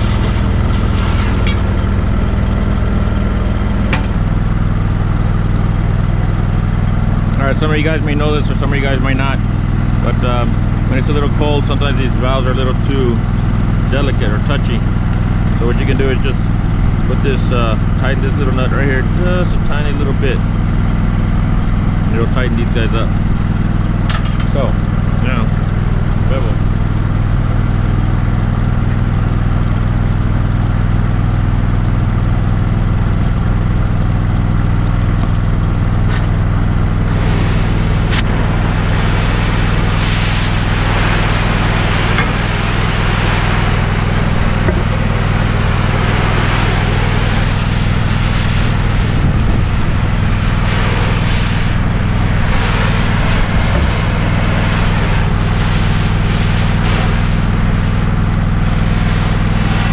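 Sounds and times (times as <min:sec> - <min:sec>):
cutting torch hissing: 0:00.0 - 0:23.8, 0:24.6 - 0:29.4, 0:30.6 - 0:59.9
engine droning: 0:00.0 - 0:59.9.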